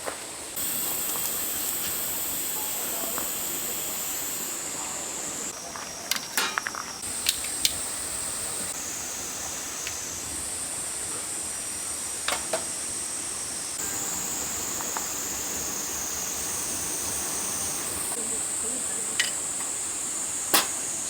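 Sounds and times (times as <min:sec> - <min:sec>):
insects droning: 0:00.4 - 0:21.0.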